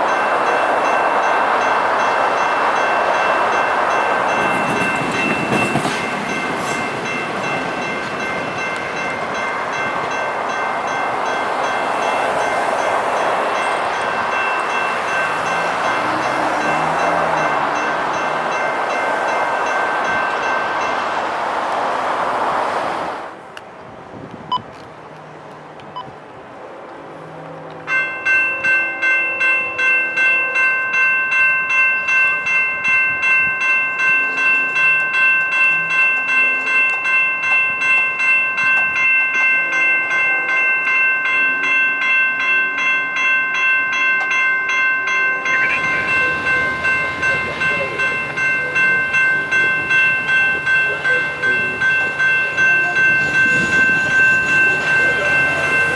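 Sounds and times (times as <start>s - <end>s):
railroad crossing bell ringing: 0.0s - 21.5s, 27.1s - 55.9s
train rumbling: 0.0s - 55.9s.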